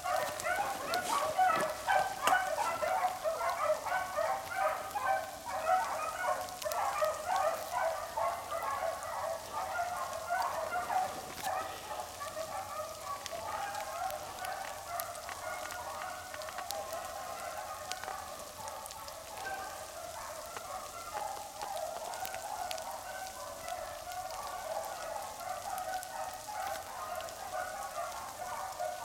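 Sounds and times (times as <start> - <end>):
beagles baying: 0.0 - 29.0.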